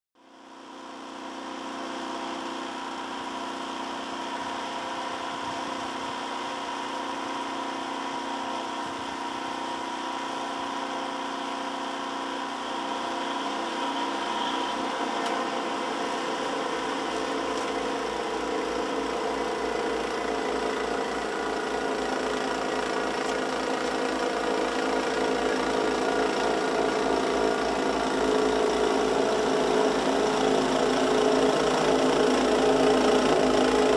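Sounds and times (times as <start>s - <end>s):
snow thrower engine running: 0.2s - 33.9s.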